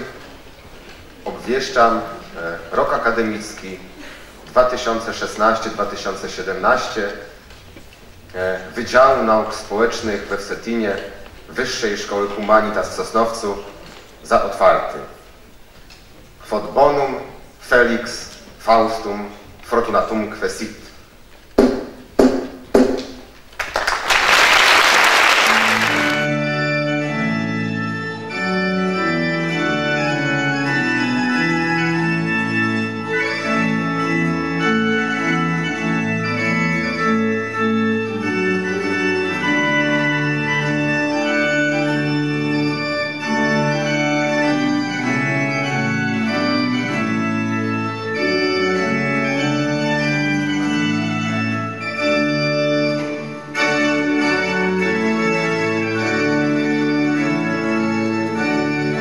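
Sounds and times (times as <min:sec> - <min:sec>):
organ music: 0:00.0 - 0:21.3, 0:22.7 - 0:59.0.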